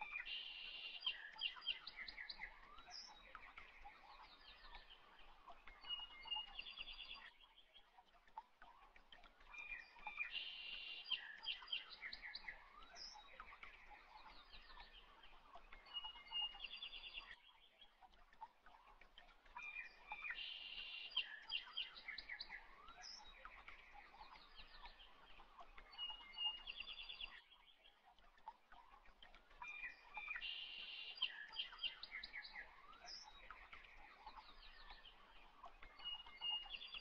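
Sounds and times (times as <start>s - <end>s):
faint birdsong: 0.0s - 37.0s.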